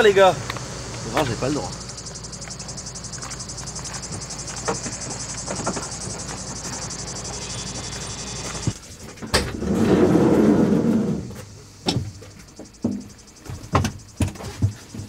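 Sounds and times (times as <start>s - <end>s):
vehicle engine idling: 0.0s - 9.3s, 11.0s - 15.0s
insects chirping: 0.0s - 15.0s.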